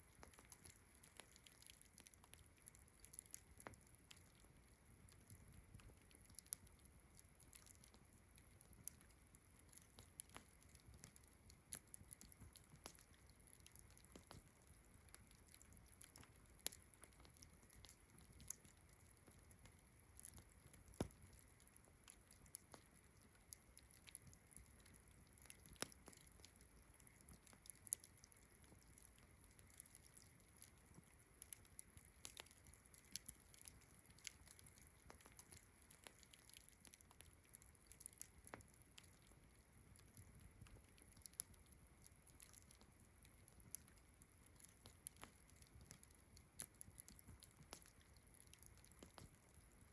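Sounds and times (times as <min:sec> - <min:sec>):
faint campfire crackling: 0:00.0 - 0:49.9.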